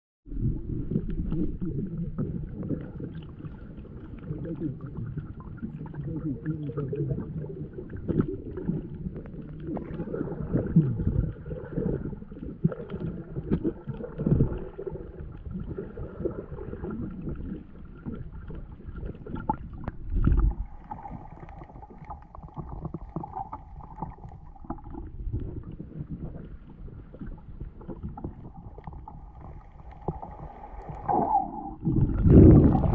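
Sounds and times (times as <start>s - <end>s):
underwater water sloshing: 0.3s - 32.9s.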